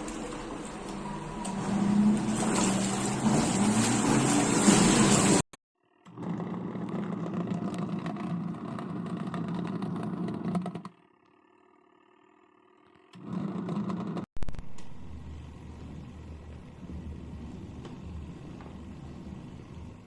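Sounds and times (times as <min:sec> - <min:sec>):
washing machine motor hum: 0:00.0 - 0:05.4, 0:06.0 - 0:20.0.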